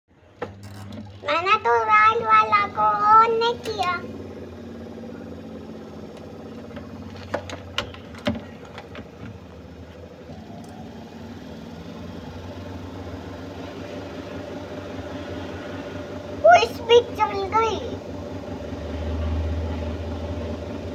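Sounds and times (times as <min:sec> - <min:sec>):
washing machine motor humming: 0:00.2 - 0:20.9.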